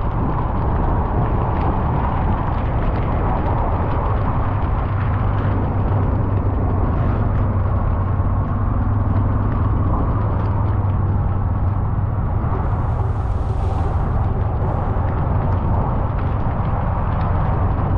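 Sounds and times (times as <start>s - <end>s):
car engine hum: 0.0s - 17.9s
road rumble: 0.0s - 17.9s.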